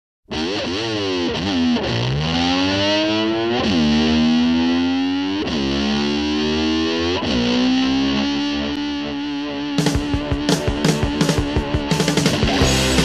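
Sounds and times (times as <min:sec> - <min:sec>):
distorted electric slide guitar: 0:00.3 - 0:13.0.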